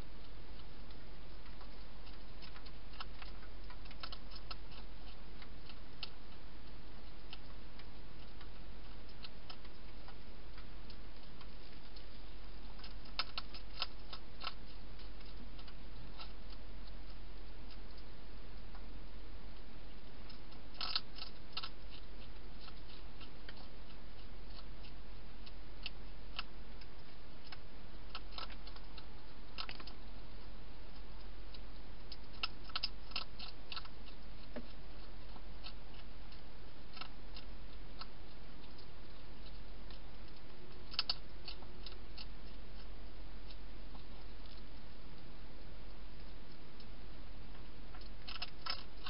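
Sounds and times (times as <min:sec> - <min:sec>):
hedgehog crunching dry food: 0:00.0 - 0:49.0
low hum: 0:00.0 - 0:49.0.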